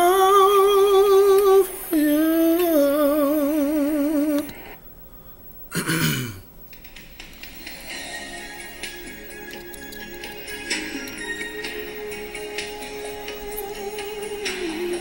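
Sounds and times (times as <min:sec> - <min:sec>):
faint music: 0:00.0 - 0:15.0.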